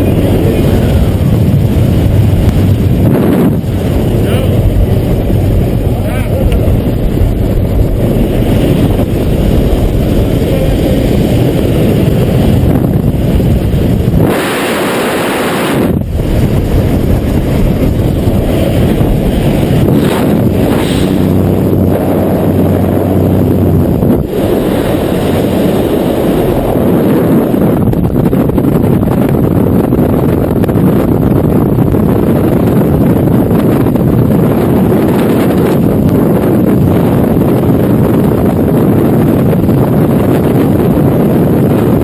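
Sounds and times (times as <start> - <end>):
aircraft engine droning: 0.0 - 42.0
wind buffeting a camera: 0.0 - 42.0.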